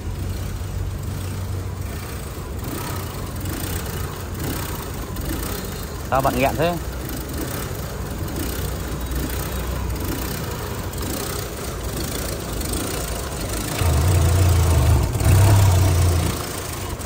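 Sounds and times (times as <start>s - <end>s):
car engine idling roughly: 0.1s - 17.0s.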